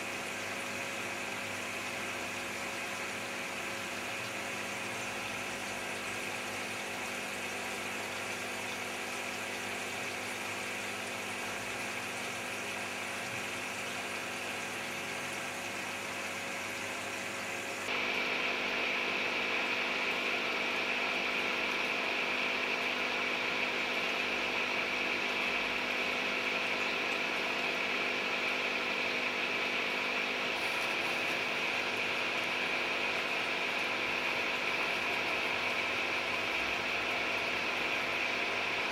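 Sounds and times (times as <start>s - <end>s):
aquarium air pump hum and hiss: 0.0s - 38.9s.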